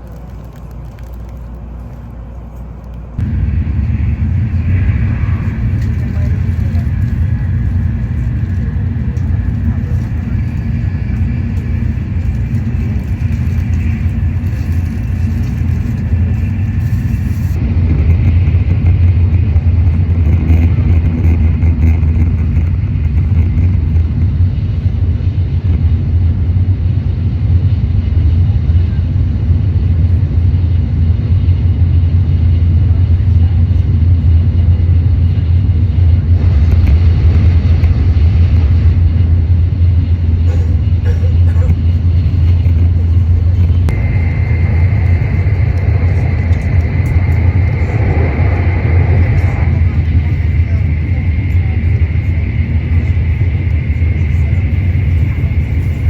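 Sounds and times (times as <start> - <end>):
train rumble inside cabin: 0.0 - 56.0.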